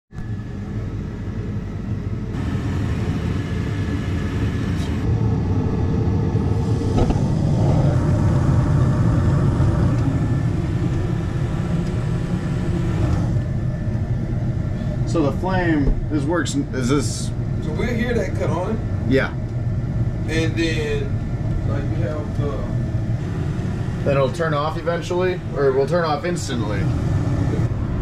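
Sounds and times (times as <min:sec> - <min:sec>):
furnace humming with faint whine: 0:00.2 - 0:28.0.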